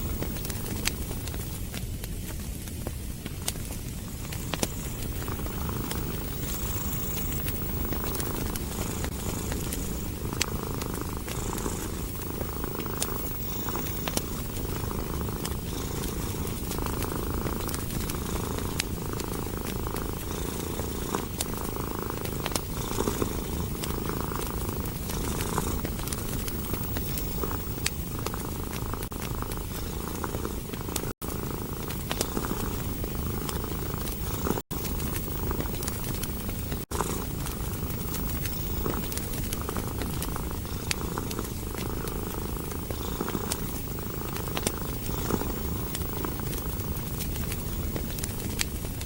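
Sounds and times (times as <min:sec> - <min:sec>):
cat purring: 0:00.0 - 0:49.0
wood fire crackling: 0:00.0 - 0:49.0.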